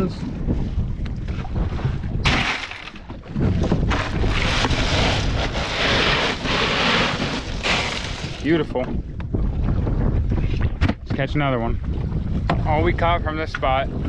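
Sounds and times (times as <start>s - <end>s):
water around boat hull: 0.0s - 14.0s
wind rushing over microphone: 0.0s - 14.0s.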